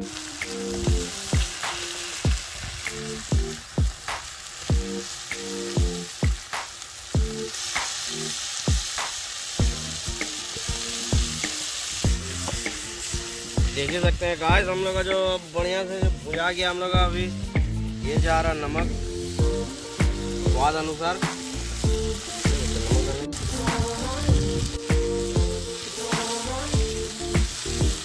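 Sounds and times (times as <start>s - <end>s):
background music with steady beat: 0.0s - 28.0s
chicken sizzling in hot oil: 0.0s - 28.0s.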